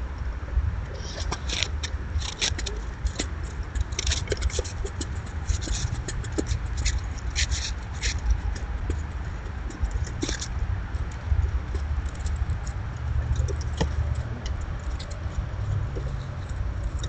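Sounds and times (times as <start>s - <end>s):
low steady rumble: 0.0s - 17.0s
squirrel claws scraping and clicking: 1.0s - 17.0s.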